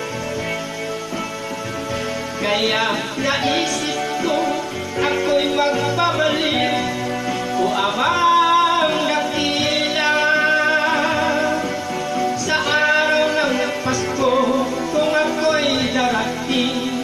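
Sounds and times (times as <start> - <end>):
gospel song backing track: 0.0 - 17.0
man singing: 2.4 - 17.0.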